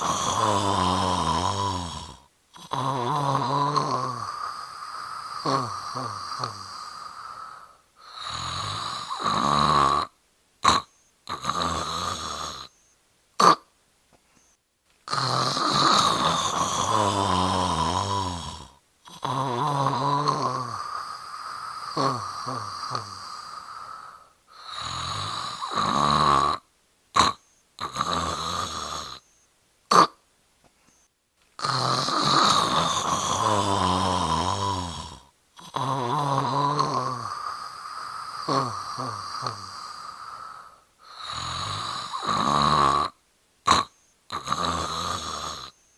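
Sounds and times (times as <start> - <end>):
person snoring: 0.0 - 12.8, 13.4 - 13.7, 15.0 - 29.3, 29.9 - 30.2, 31.6 - 45.9.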